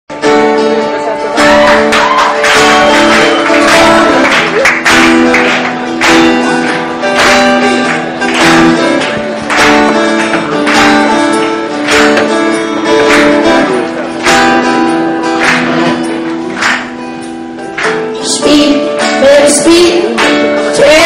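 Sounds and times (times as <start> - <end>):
acoustic guitar strumming: 0.1 - 21.0.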